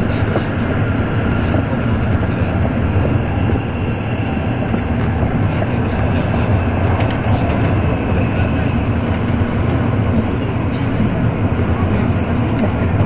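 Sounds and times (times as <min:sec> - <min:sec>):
high-speed train rumble inside cabin: 0:00.0 - 0:13.0.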